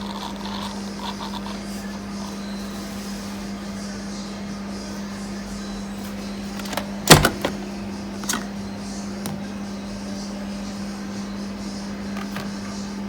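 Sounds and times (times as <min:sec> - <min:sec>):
coffee machine humming: 0:00.0 - 0:13.0.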